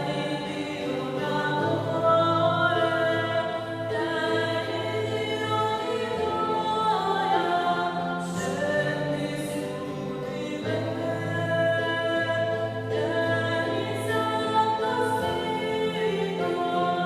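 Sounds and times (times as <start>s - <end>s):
choir singing sacred song: 0.0s - 17.0s.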